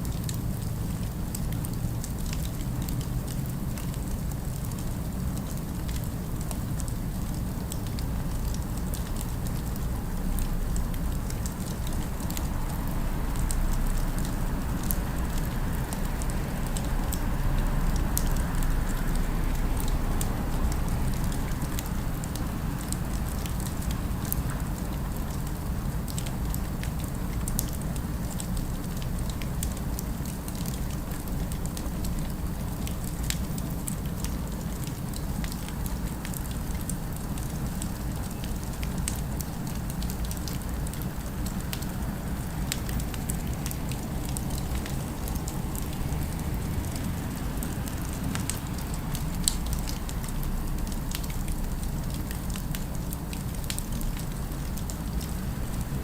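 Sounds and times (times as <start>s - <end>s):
fire crackling and popping: 0.0s - 56.0s
low city ambience rumble: 0.0s - 56.0s.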